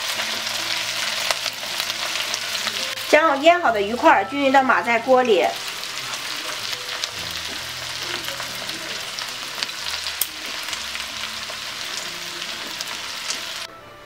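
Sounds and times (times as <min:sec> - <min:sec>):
food sizzling in clay pot: 0:00.0 - 0:13.7.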